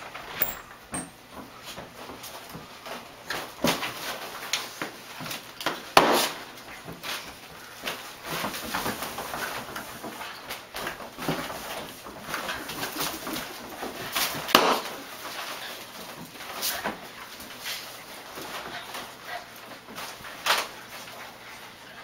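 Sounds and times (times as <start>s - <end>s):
dog scuffling: 0.0s - 22.0s.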